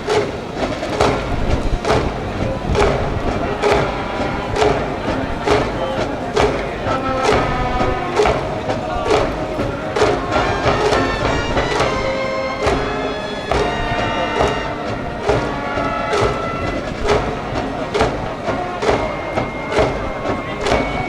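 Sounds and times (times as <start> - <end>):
brass band playing: 0.0 - 21.0
heavy drum hits: 0.0 - 21.0.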